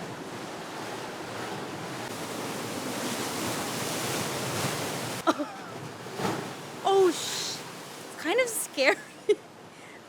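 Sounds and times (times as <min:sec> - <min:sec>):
surf rushing between rocks: 0:00.0 - 0:08.9.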